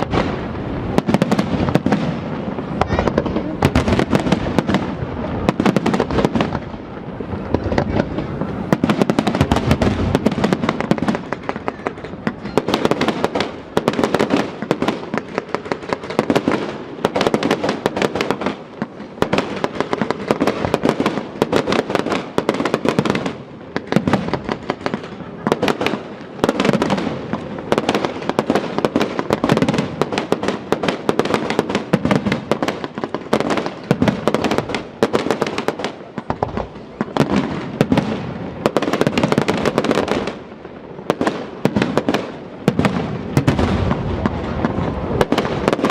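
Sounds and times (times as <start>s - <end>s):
fireworks bursts and crackling: 0.0s - 45.9s.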